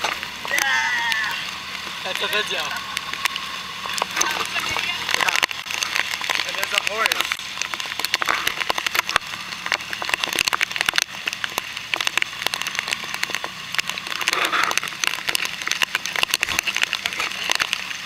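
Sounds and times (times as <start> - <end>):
faint low engine drone: 0.0 - 18.0
crackling and clattering: 1.7 - 18.0.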